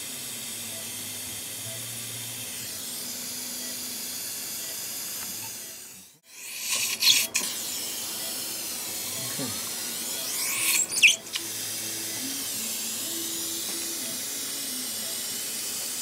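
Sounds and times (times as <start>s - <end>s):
dental drill hiss: 0.0s - 16.0s.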